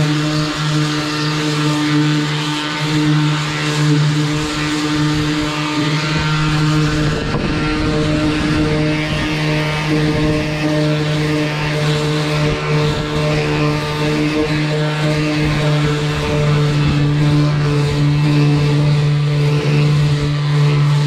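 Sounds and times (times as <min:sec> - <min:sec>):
power sander on wood: 0:00.0 - 0:21.0.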